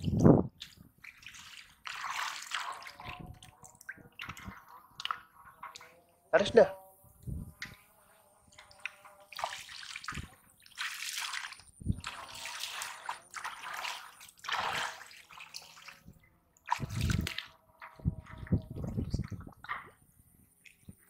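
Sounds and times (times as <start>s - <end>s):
water pouring from a pipe: 0.0s - 5.9s, 8.5s - 20.0s
muddy water splashing: 0.0s - 6.2s, 7.5s - 21.0s.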